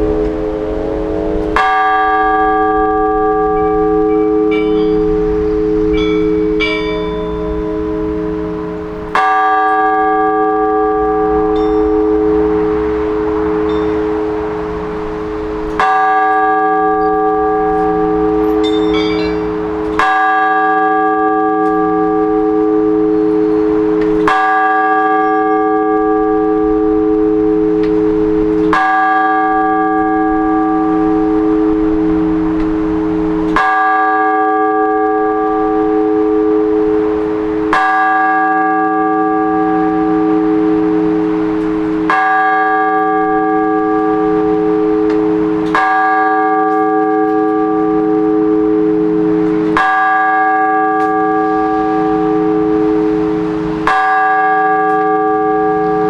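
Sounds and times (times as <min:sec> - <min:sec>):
church bell tolling slowly: 0:00.0 - 0:56.0.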